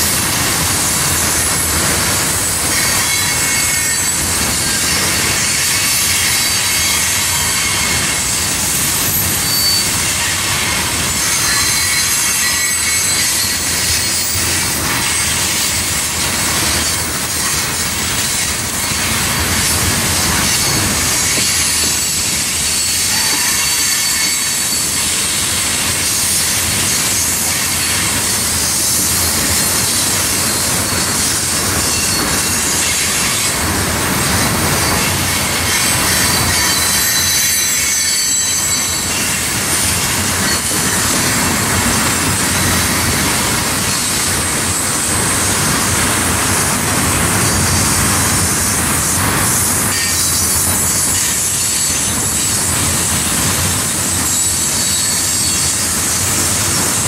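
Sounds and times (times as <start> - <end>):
freight train wheels clattering: 0.0 - 57.0
high wheel squeals: 2.4 - 33.7, 34.7 - 45.1, 49.8 - 53.2, 54.0 - 56.6.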